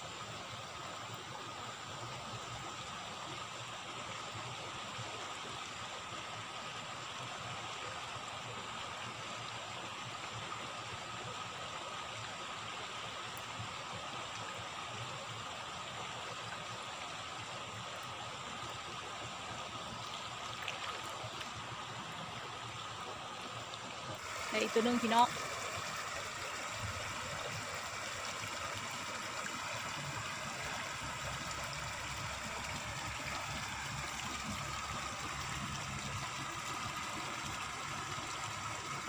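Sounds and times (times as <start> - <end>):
stream and waterfall rushing: 0.0 - 39.0
rain falling on water: 0.1 - 39.0.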